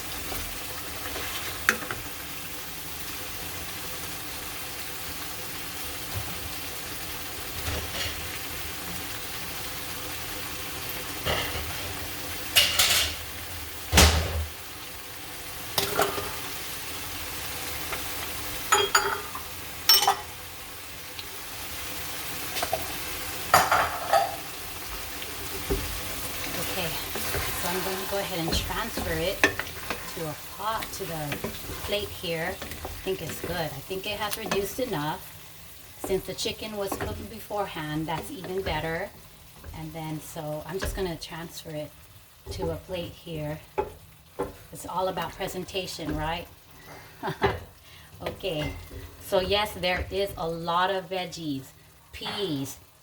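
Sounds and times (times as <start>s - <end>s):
stew simmering with hiss: 0.0s - 53.0s.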